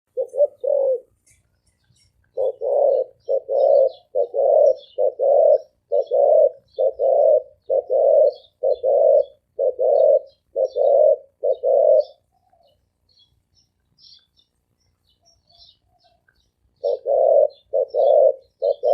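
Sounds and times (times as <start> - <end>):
dove cooing: 0.1 - 12.8, 15.3 - 18.9
small birds chirping: 0.1 - 18.9.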